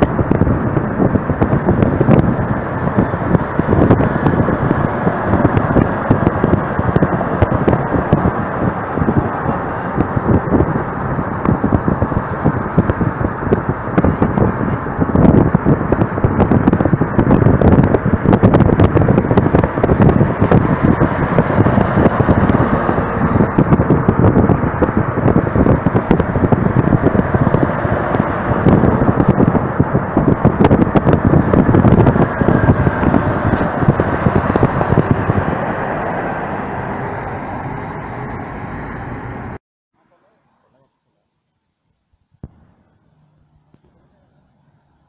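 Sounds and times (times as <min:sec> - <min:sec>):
truck passing alongside: 0:00.0 - 0:39.6, 0:42.5 - 0:45.0
wind buffeting microphone: 0:00.0 - 0:39.6
road and engine noise: 0:00.0 - 0:45.0.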